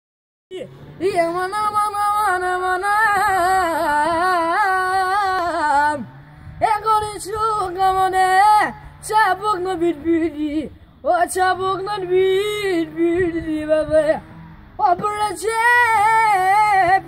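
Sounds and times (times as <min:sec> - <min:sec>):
boy singing in a high voice: 0:00.5 - 0:14.2, 0:14.8 - 0:17.0.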